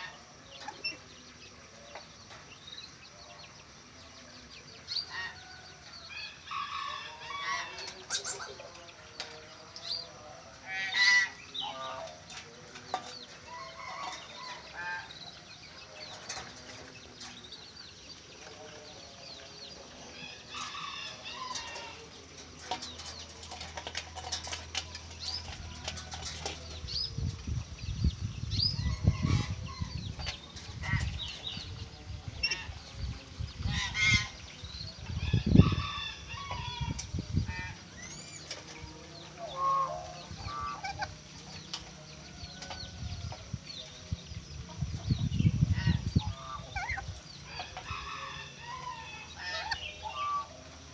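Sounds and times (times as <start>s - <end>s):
birds chirping and squawking: 0.0s - 50.9s.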